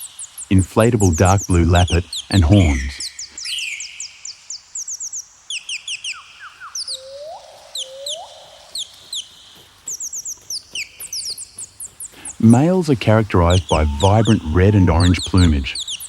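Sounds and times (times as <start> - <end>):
birds chirping: 0.0 - 16.0
faint steady hiss: 0.0 - 16.0
low rising bird calls: 0.0 - 16.0.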